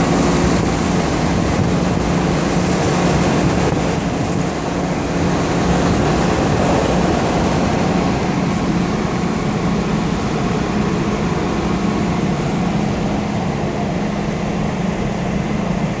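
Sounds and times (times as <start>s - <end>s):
ship engines rumbling: 0.0s - 16.0s.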